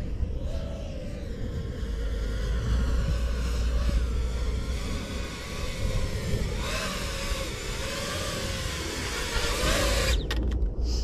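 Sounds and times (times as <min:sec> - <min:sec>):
drone propellers buzzing: 0:00.0 - 0:10.8.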